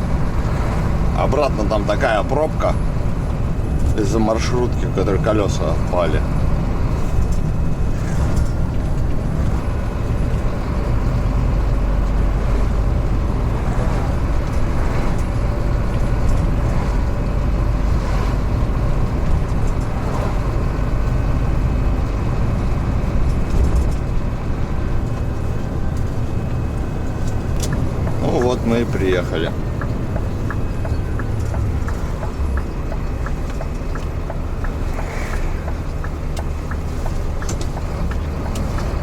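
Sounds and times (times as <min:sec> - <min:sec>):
road rumble: 0:00.0 - 0:39.0
truck diesel engine running: 0:00.0 - 0:39.0.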